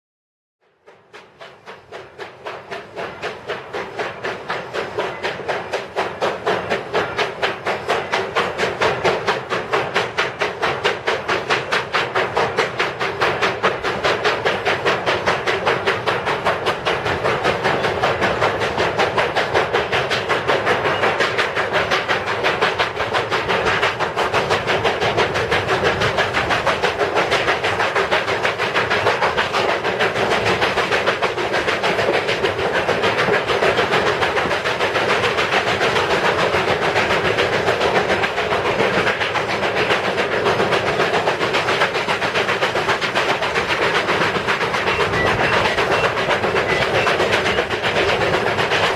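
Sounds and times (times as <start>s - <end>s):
steam locomotive chuffing: 0.6s - 48.9s
train wheels clattering on rails: 0.6s - 48.9s.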